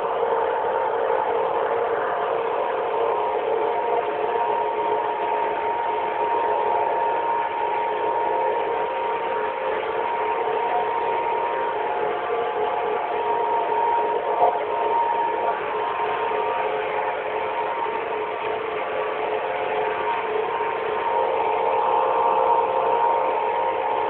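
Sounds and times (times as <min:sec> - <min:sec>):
constant machine whine: 0:00.0 - 0:24.0
harvester engine drone: 0:00.0 - 0:24.0.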